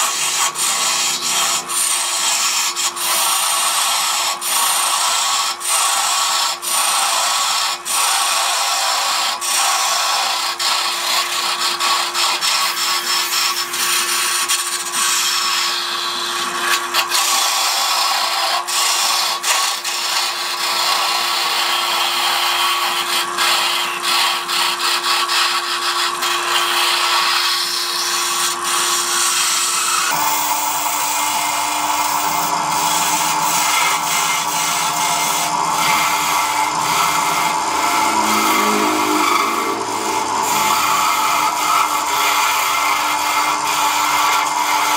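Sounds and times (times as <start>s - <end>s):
lathe motor hum: 0.0s - 44.9s
tool scraping wood shavings: 0.0s - 44.9s.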